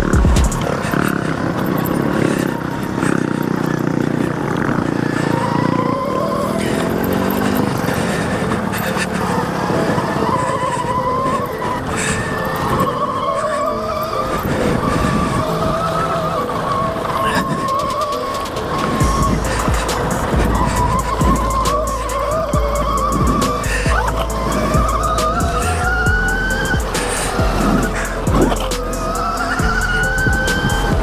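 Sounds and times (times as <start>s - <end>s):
electric motor whining: 0.0s - 31.0s
wind rush: 0.0s - 31.0s.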